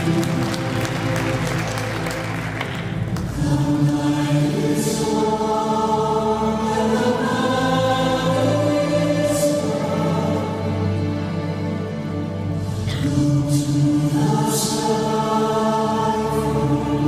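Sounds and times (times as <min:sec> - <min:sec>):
choir singing epic music: 0:00.0 - 0:17.0
low sustained accompaniment: 0:00.0 - 0:17.0.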